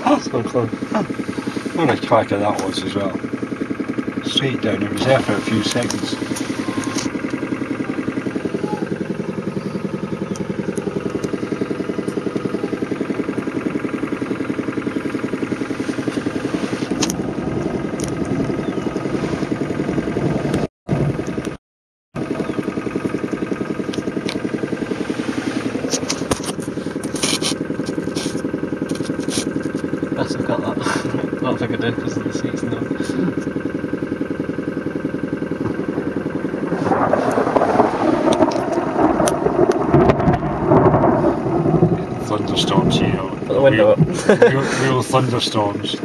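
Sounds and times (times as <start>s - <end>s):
car engine running: 0.0s - 21.6s, 22.2s - 46.0s.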